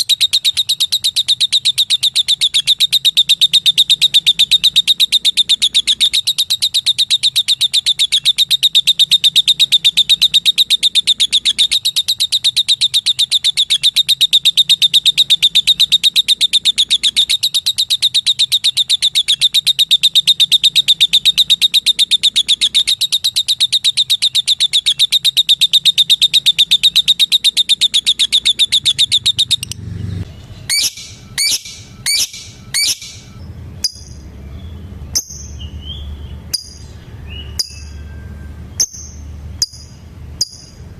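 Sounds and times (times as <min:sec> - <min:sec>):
lovebird chattering trill: 0:00.0 - 0:29.8, 0:30.4 - 0:38.1, 0:38.8 - 0:40.9.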